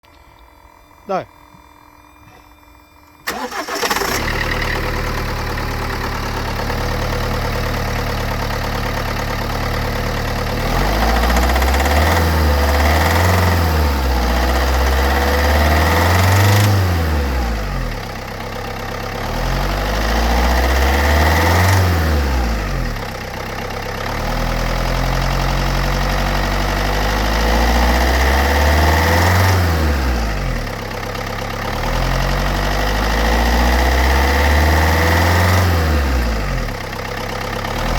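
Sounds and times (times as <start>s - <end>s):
diesel engine idling and revving: 0.0s - 37.9s.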